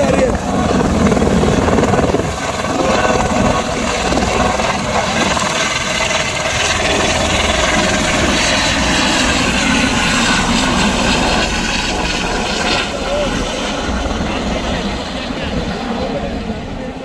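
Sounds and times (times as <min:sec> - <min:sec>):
helicopter turbine and rotor noise: 0:00.0 - 0:17.0.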